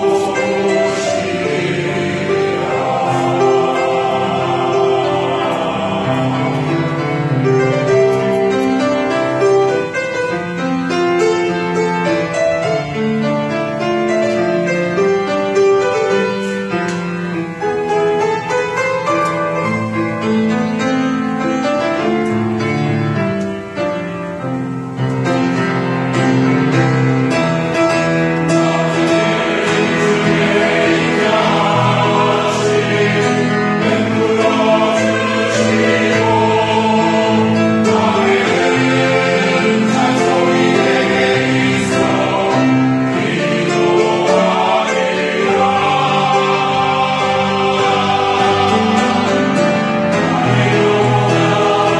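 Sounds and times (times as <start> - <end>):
choir singing: 0.0 - 20.3, 25.5 - 51.9
piano accompaniment: 0.0 - 51.9.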